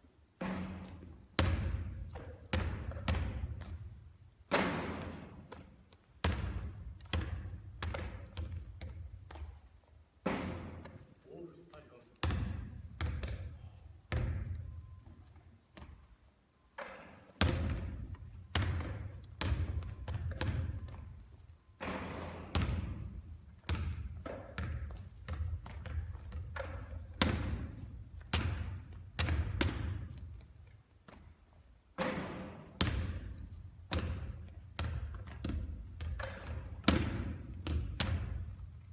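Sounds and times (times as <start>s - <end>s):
basketball bouncing on a court: 0.4s - 11.0s, 12.2s - 15.1s, 15.8s - 16.0s, 16.8s - 31.3s, 32.0s - 38.9s.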